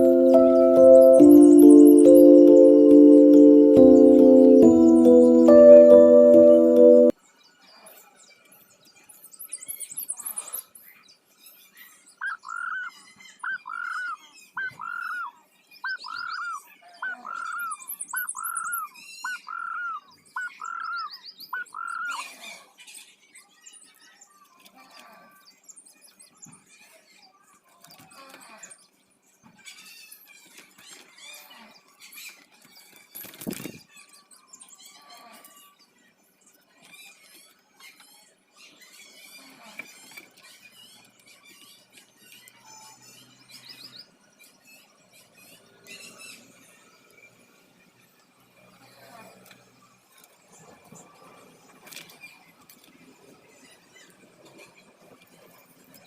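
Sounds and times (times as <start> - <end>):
small birds chirping and trilling: 7.2 - 56.0.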